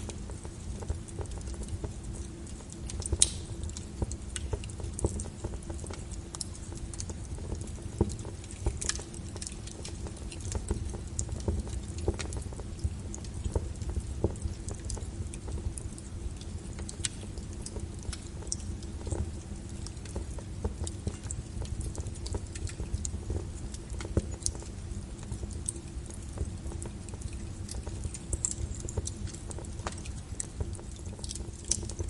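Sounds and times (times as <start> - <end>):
logs crackling and popping: 0.0 - 32.0
low rumble of flames: 0.0 - 32.0.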